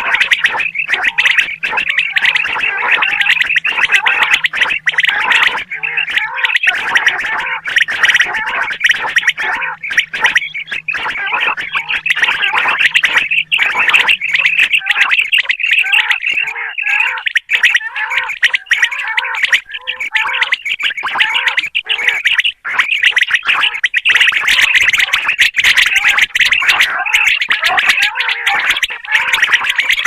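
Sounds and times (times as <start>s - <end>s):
quail chirping: 0.0s - 30.0s.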